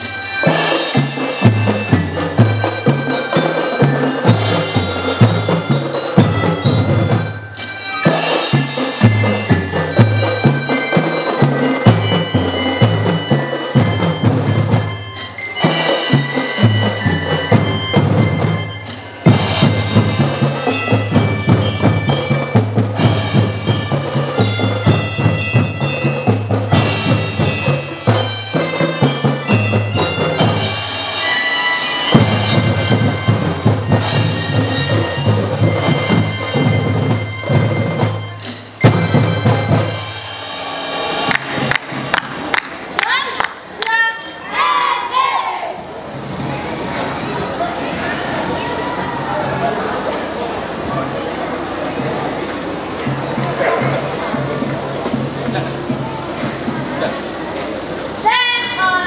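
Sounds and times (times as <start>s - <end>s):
drum beat: 0.0s - 31.4s, 32.1s - 43.8s, 53.0s - 57.4s
mallet percussion melody: 0.0s - 44.5s, 45.9s - 59.0s
marching band playing: 0.0s - 59.0s.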